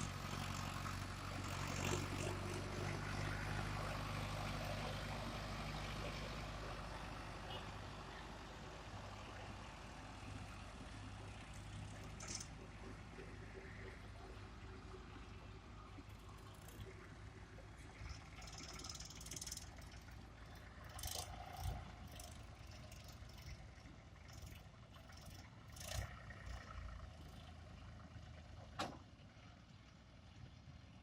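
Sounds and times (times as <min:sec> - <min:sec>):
tractor engine running: 0:00.0 - 0:29.3.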